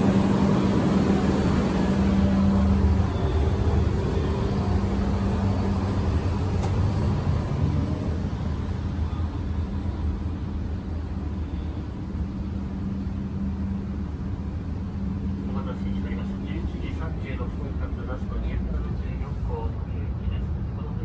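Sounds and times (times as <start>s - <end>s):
train rumbling and humming: 0.0s - 21.0s.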